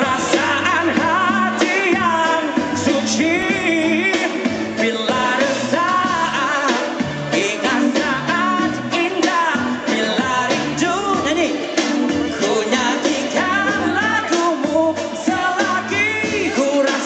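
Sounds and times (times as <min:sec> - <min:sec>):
amplified band playing: 0:00.0 - 0:17.0
man singing into microphone: 0:00.0 - 0:17.0.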